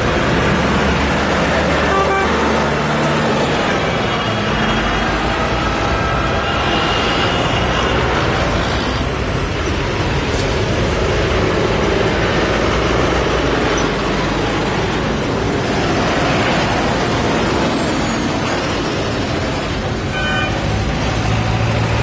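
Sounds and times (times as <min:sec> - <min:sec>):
tractor engines rumbling: 0:00.0 - 0:22.0.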